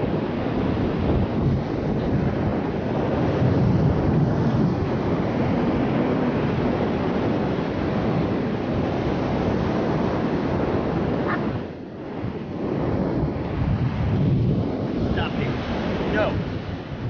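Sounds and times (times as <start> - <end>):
surf on a beach: 0.0 - 17.0
wind buffeting microphone: 0.0 - 17.0.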